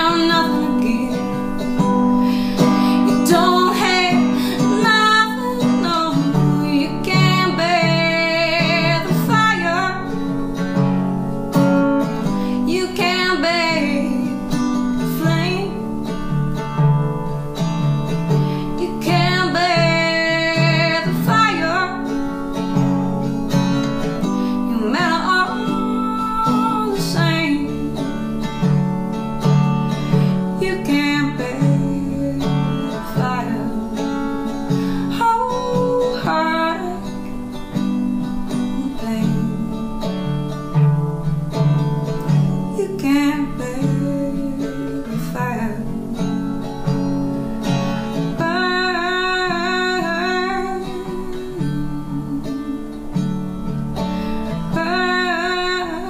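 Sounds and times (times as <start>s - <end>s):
resonator guitar: 0.0s - 56.0s
woman singing: 0.0s - 56.0s.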